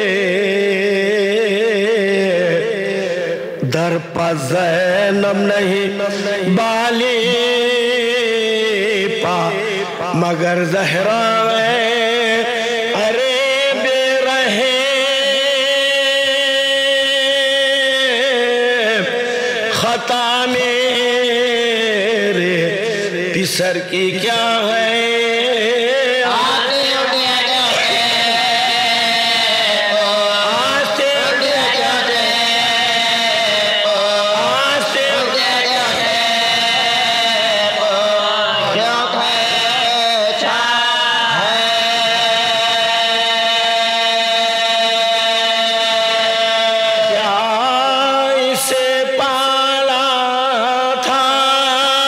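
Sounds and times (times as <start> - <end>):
man chanting unaccompanied: 0.0 - 52.0.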